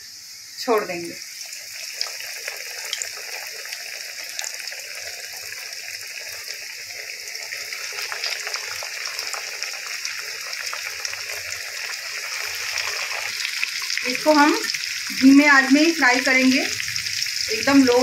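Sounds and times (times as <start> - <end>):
fish deep-frying in hot oil: 0.0 - 18.0.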